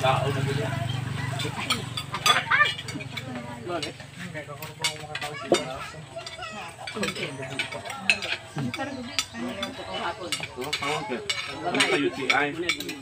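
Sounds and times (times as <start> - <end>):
people chattering: 0.0 - 13.0
cutlery clinking on plates: 1.2 - 13.0.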